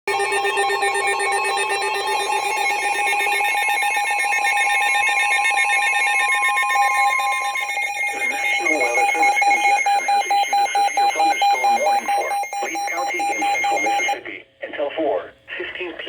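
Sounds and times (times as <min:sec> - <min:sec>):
high continuous alarm tone: 0:00.1 - 0:14.2
buzzing warbling radio tones: 0:00.1 - 0:14.4.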